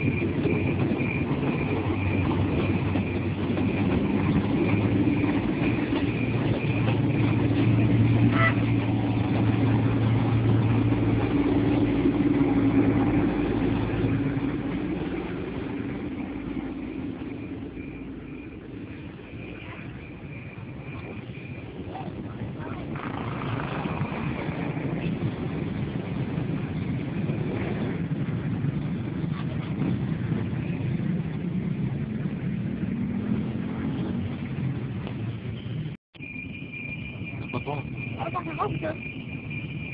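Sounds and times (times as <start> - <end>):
diesel train engine drone: 0.0 - 39.9.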